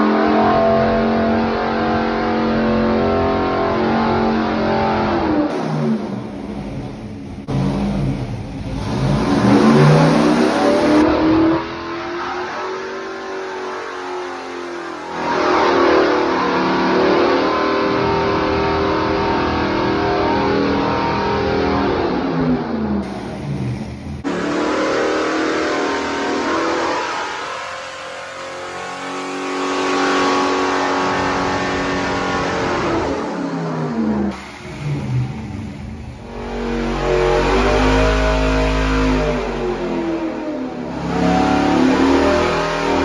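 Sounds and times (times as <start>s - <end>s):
engine revving on dynamometer: 0.0s - 43.0s.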